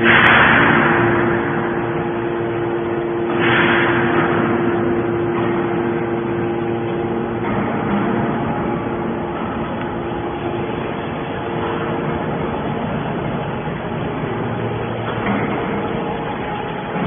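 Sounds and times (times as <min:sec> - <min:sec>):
loud noisy bursts of metal pressing: 0:00.0 - 0:17.0
machine hum: 0:00.0 - 0:17.0.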